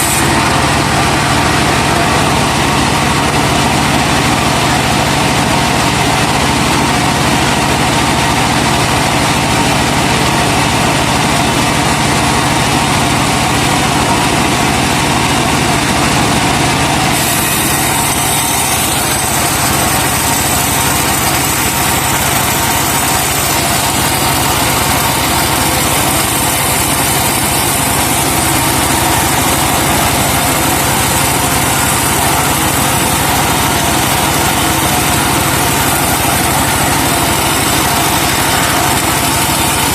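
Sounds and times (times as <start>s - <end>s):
saw cutting a log: 0.0s - 39.9s
sawmill engine running: 0.0s - 39.9s.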